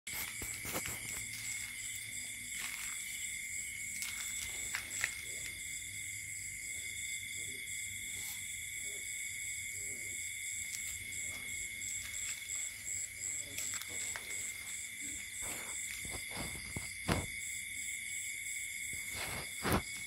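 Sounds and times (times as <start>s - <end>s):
crickets chirping: 0.1s - 20.0s.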